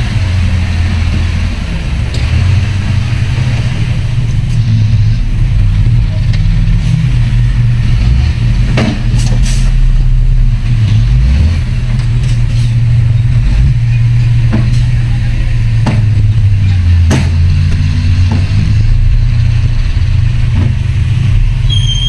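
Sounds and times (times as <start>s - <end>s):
heavy diesel engine under load: 0.0s - 22.0s.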